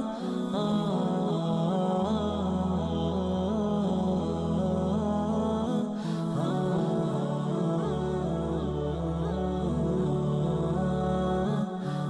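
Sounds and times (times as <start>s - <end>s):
ambient music with sustained tones: 0.0s - 12.0s
wavering chant-like voice: 0.0s - 12.0s.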